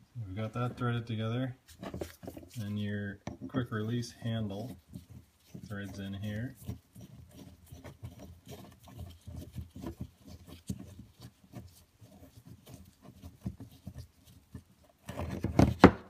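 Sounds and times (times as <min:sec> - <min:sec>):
gloved fingers rubbing: 0:00.4 - 0:15.8.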